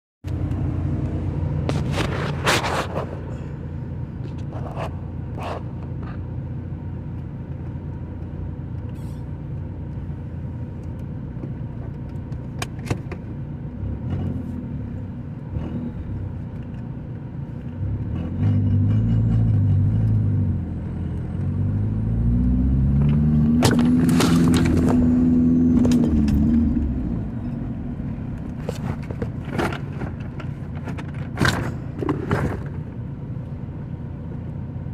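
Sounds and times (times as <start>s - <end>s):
car engine idling and revving: 0.2s - 34.9s.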